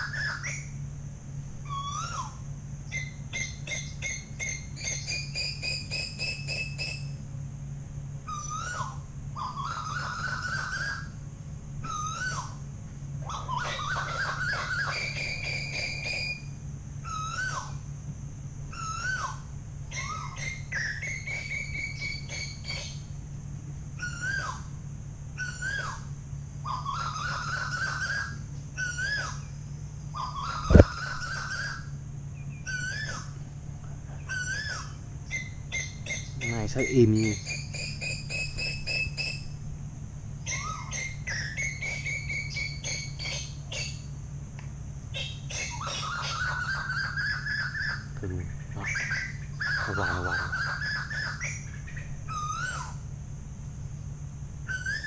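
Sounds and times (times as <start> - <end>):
small birds chirping: 0.0 - 0.9, 1.6 - 7.2, 8.2 - 11.2, 11.8 - 18.0, 18.6 - 23.2, 23.9 - 39.7, 40.3 - 55.0
steady low hum: 0.0 - 55.0
bird whistled rising notes: 1.6 - 7.2, 8.3 - 11.2, 11.8 - 12.6, 13.2 - 17.8, 18.7 - 23.1, 24.0 - 24.7, 25.4 - 33.5, 34.2 - 39.6, 40.4 - 44.1, 45.2 - 53.0, 54.6 - 55.0.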